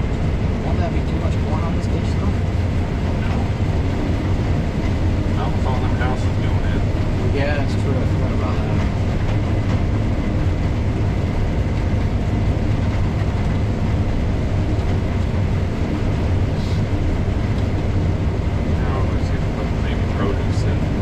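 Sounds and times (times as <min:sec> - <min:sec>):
combine harvester droning: 0:00.0 - 0:21.0.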